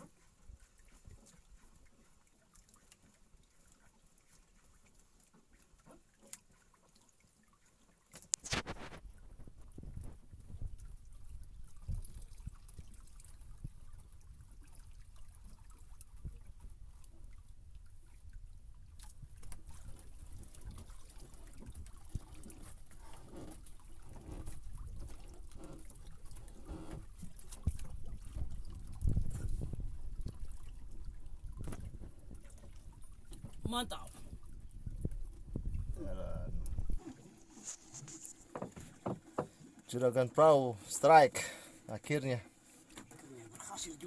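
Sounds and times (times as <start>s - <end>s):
water lapping around a boat: 0.0s - 44.0s.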